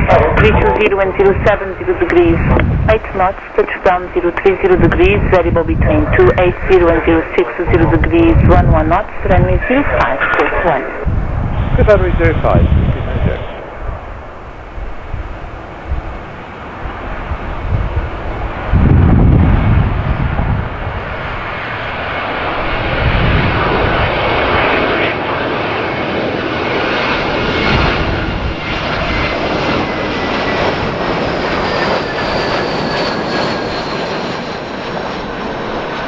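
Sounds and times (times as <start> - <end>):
jet engines roaring overhead: 0.0 - 36.0
wind buffeting microphone: 0.0 - 36.0.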